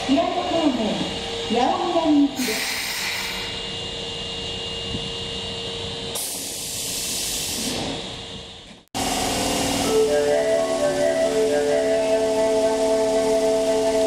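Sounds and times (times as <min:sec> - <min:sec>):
subway train humming: 0:00.0 - 0:14.0.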